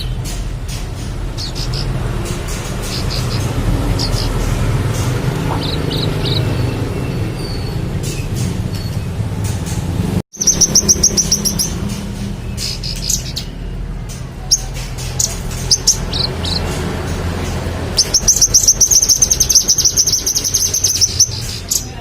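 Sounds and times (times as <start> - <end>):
songbird chirping: 0.0 - 9.8, 10.4 - 22.0.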